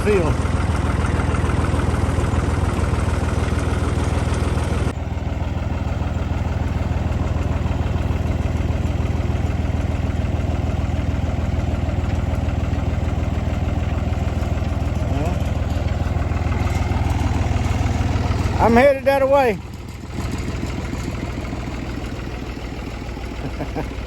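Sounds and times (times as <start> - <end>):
engine running at low speed: 0.0 - 24.0.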